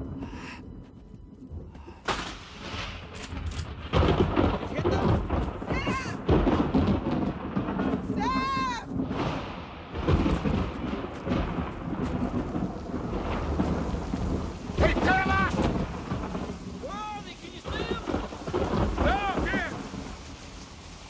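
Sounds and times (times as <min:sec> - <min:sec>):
heavy rain: 0:00.0 - 0:21.0
thunder rumble: 0:00.0 - 0:21.0.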